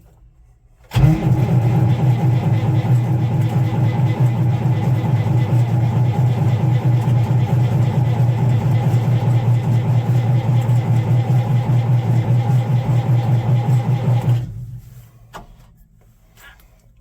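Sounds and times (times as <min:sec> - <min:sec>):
diesel engine cranking: 0:00.9 - 0:14.6.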